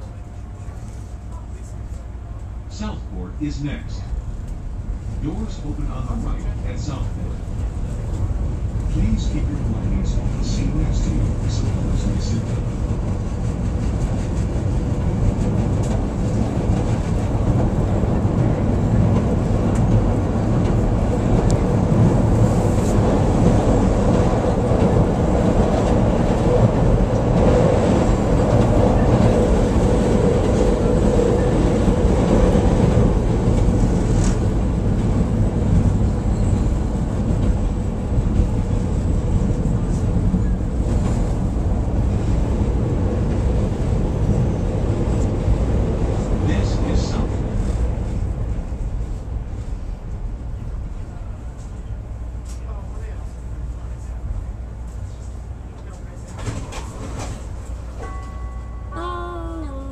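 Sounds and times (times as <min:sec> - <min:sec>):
train wheels rumbling on rail: 0:00.0 - 0:58.8.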